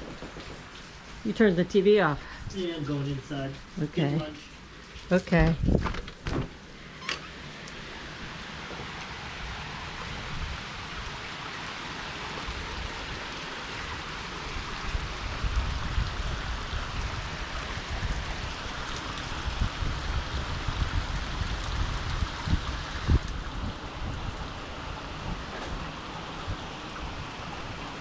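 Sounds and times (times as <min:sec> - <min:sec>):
steady rain falling: 0:00.0 - 0:05.8, 0:06.5 - 0:28.0.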